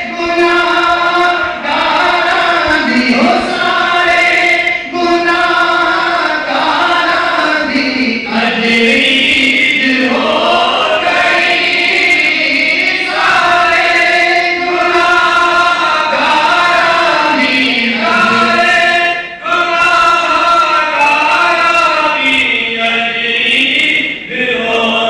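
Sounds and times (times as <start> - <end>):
men chanting in unison: 0.0 - 25.0.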